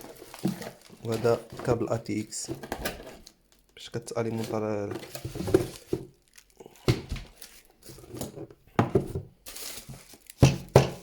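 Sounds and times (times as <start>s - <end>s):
plastic rustle: 0.0s - 11.0s.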